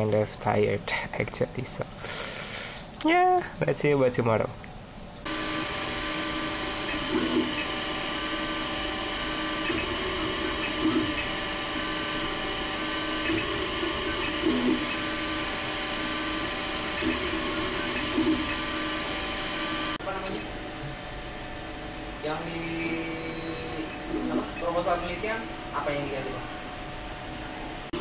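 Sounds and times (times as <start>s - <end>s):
printer motor hum: 5.2s - 28.0s.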